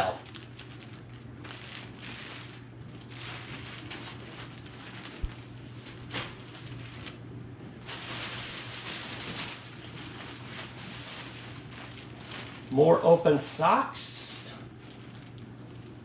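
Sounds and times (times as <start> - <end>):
plastic bag and clothing rustling: 0.0 - 7.2, 7.8 - 16.0.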